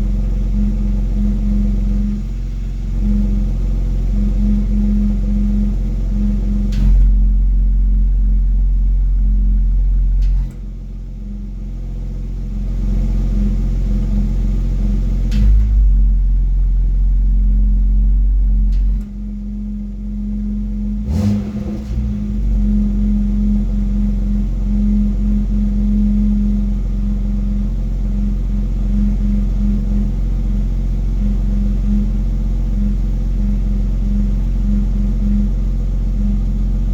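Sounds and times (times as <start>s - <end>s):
car engine idling: 0.0s - 36.9s
droning exhaust hum and rattle: 0.0s - 36.9s.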